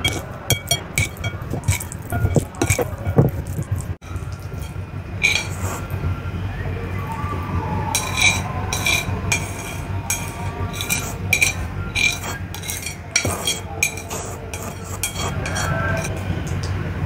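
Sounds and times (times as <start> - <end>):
chopsticks clinking against a bowl: 0.0 - 5.8, 8.0 - 16.3.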